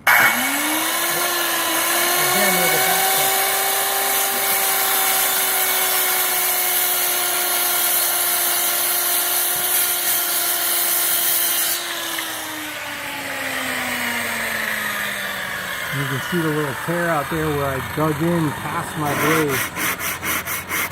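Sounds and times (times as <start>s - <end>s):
saw motor winding down whine: 0.0s - 9.8s, 11.8s - 20.9s
circular saw cutting wood: 0.0s - 20.9s.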